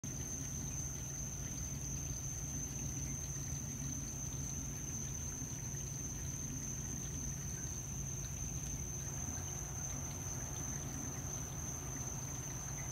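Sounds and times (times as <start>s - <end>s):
trickling water: 0.0s - 12.9s.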